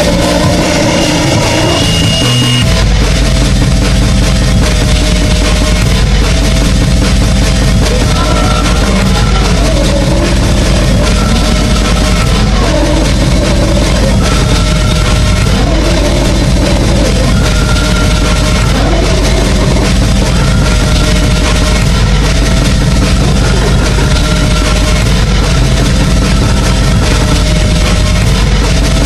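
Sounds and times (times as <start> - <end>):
electronic goregrind music with drums: 0.0 - 29.0.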